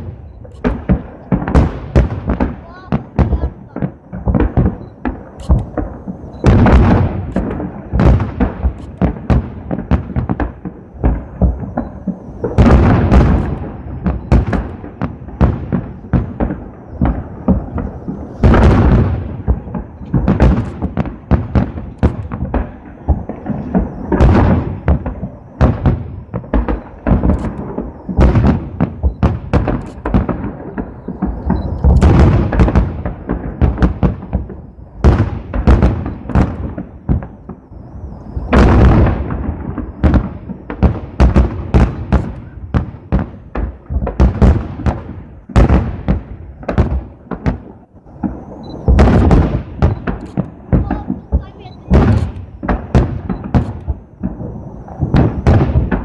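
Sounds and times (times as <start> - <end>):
fireworks bursting with bangs and booms: 0.0 - 56.0.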